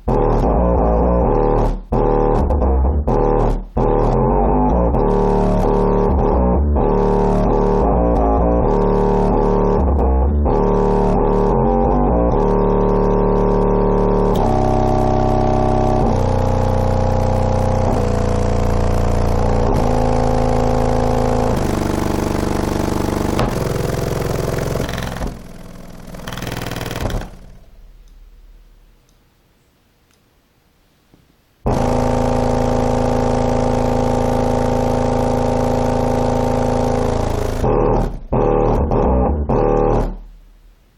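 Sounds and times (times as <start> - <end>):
loud bass music through subwoofer: 0.0 - 28.8, 31.7 - 40.8.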